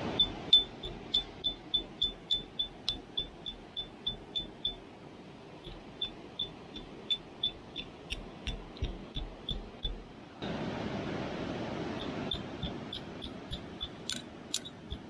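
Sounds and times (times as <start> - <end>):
sharp high-pitched ringing ticks: 0.0 - 4.9, 5.6 - 10.1, 12.0 - 15.0.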